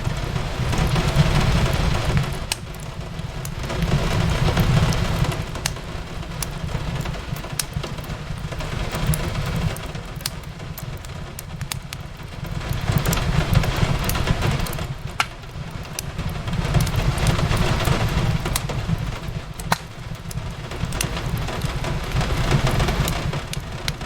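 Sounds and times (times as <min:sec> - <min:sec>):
rain on a window: 0:00.0 - 0:24.0
wood fire crackling: 0:00.0 - 0:24.0.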